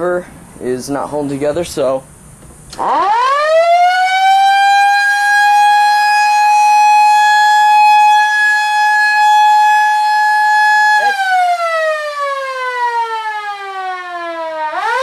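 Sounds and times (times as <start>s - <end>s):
mechanical siren wailing: 2.8s - 15.0s.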